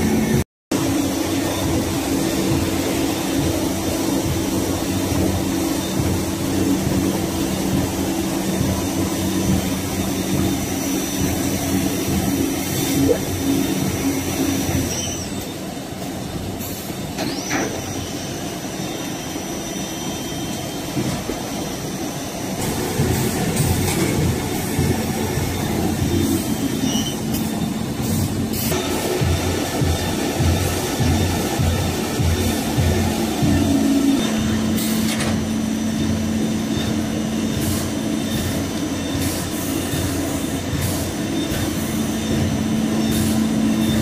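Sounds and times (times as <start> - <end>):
low motor hum: 0.0 - 15.0, 22.6 - 44.0
machinery mechanical din: 0.0 - 15.6, 22.6 - 44.0.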